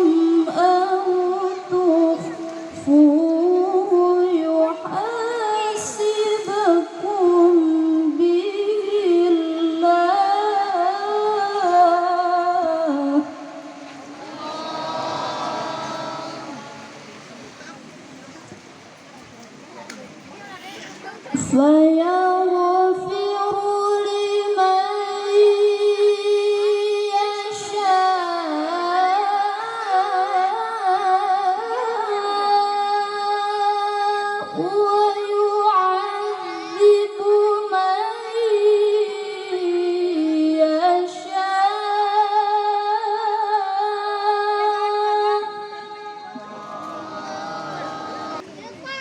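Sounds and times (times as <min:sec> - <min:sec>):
woman singing with vibrato: 0:00.0 - 0:17.0, 0:21.4 - 0:36.2, 0:36.8 - 0:48.4.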